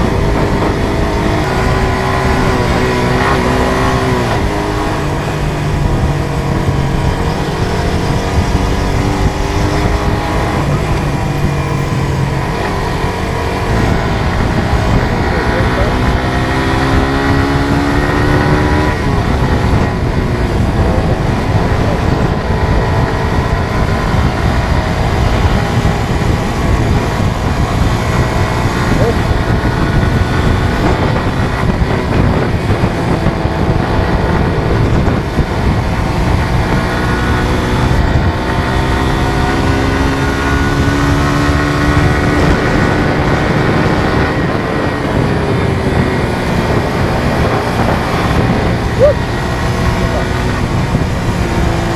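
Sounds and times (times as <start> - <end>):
motorcycle engine running at speed: 0.0 - 51.9
wind rumble on microphone: 0.0 - 51.9.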